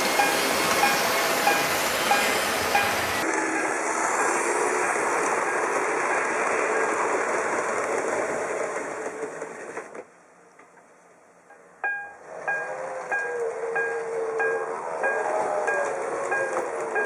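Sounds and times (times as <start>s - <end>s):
model train motor whirring: 0.0s - 9.8s, 12.2s - 17.0s.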